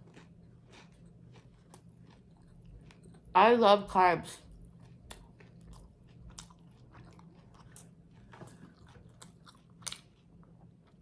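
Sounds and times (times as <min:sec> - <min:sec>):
close chewing with crunches: 0:00.0 - 0:03.3, 0:04.4 - 0:11.0.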